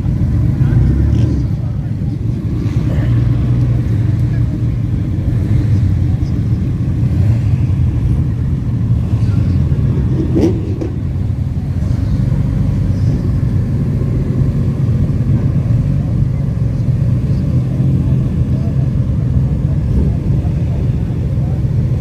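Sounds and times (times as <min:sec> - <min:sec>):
sports car engine rumbling: 0:00.0 - 0:22.0.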